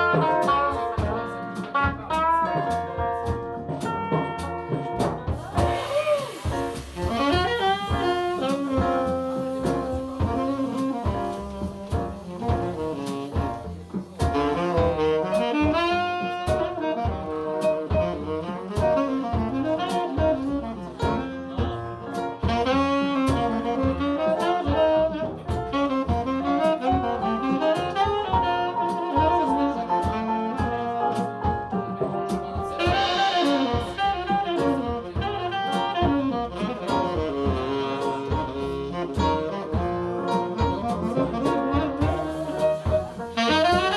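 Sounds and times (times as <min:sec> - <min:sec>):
tenor saxophone solo: 0:00.0 - 0:02.8, 0:05.4 - 0:31.5, 0:32.8 - 0:43.9
jazz blues band playing: 0:00.0 - 0:43.9.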